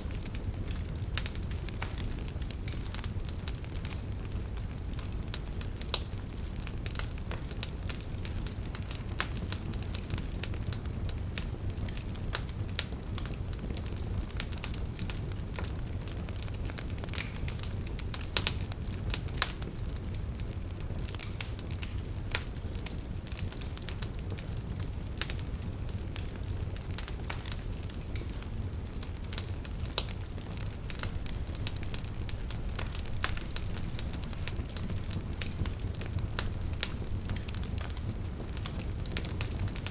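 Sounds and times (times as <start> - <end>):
wood fire burning in fireplace: 0.0 - 39.9.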